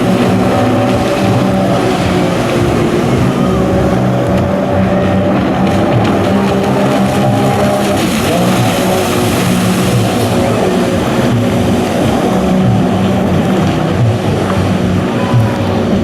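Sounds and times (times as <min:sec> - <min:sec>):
jet ski engines: 0:00.0 - 0:16.0.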